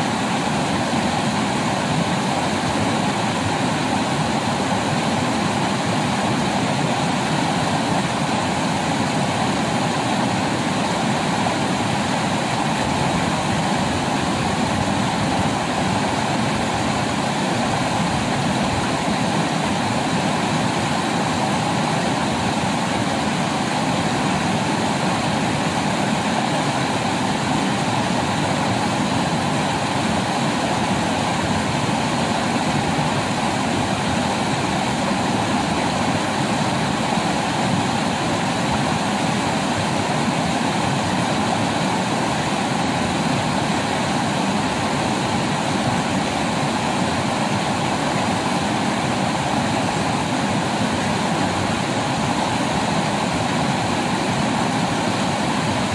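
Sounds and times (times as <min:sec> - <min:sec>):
river rapids rushing over boulders: 0:00.0 - 0:55.9.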